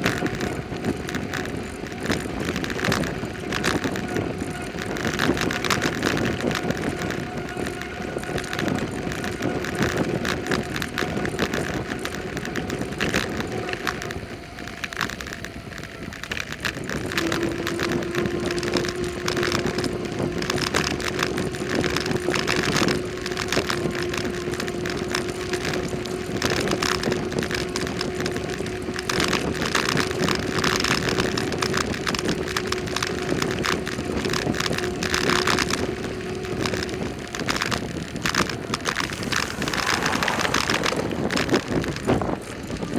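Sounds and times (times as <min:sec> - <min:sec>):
wind buffeting microphone: 0:00.0 - 0:42.9
road noise: 0:00.1 - 0:42.9.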